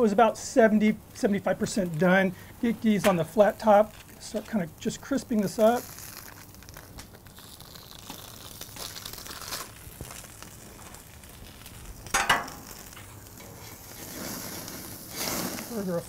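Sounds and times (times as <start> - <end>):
bacon sizzling on griddle: 1.2 - 16.0
parchment paper crinkling: 2.6 - 16.0.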